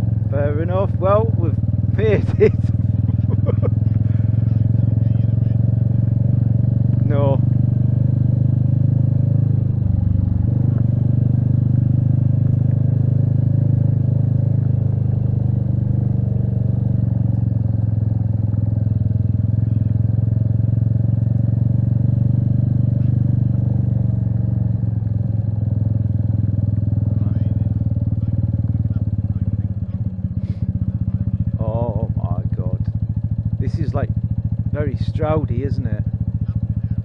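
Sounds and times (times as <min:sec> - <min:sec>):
motorcycle engine low rumble: 0:00.0 - 0:37.0.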